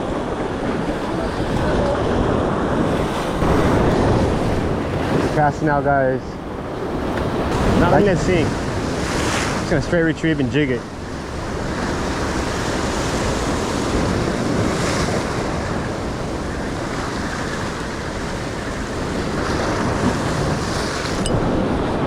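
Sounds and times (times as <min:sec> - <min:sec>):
surf washing against rocks: 0:00.0 - 0:22.0
wind buffeting microphone: 0:00.0 - 0:22.0.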